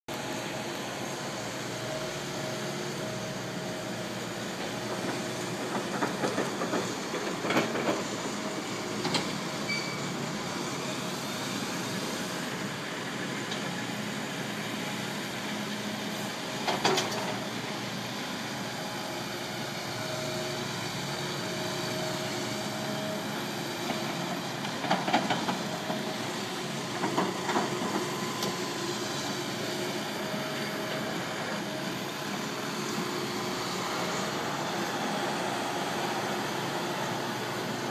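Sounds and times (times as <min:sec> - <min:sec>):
heavy diesel machinery running: 0:00.1 - 0:37.9.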